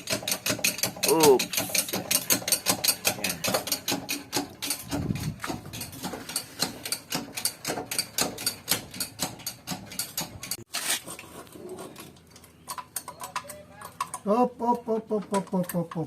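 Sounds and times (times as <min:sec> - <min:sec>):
hand tools clicking on metal: 0:00.0 - 0:10.7, 0:12.0 - 0:16.0.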